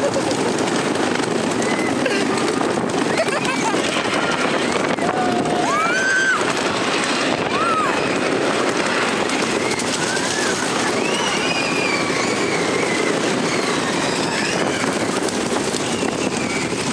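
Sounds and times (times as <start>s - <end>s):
roller coaster rattling on wooden track: 0.0s - 16.9s.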